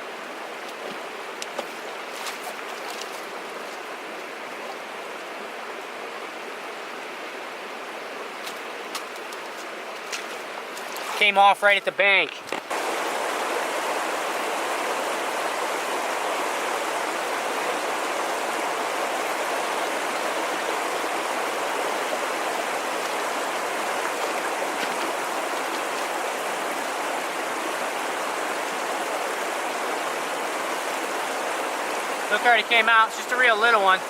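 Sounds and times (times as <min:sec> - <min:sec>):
creek rushing over rocks: 0:00.0 - 0:34.0.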